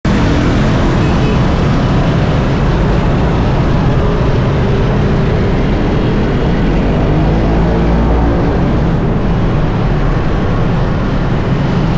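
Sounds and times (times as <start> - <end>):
street ambience rumble and hiss: 0.0 - 11.9.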